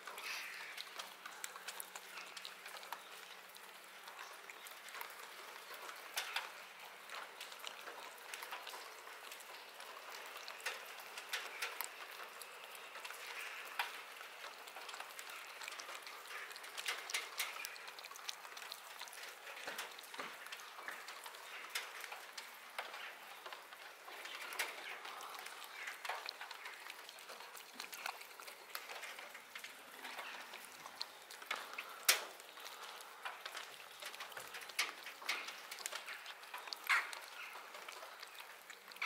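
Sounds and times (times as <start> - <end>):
cat chewing wet food: 0.1 - 39.0.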